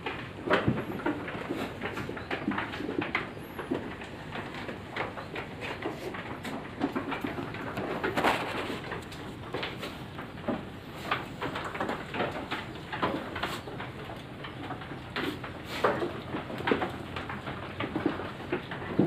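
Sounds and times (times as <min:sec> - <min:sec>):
wooden knocks and clatter: 0:00.0 - 0:19.0.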